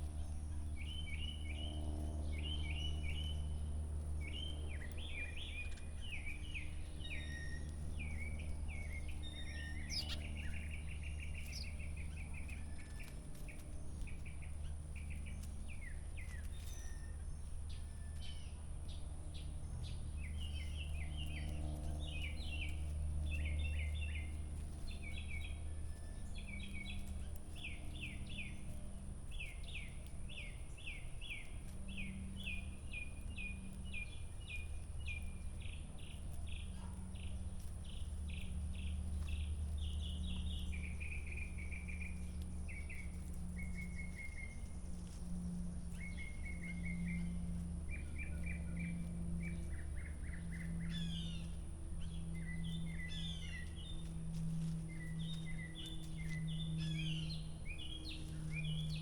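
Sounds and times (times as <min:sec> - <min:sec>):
songbirds singing: 0:00.0 - 0:59.0
steady low hum: 0:00.0 - 0:59.0.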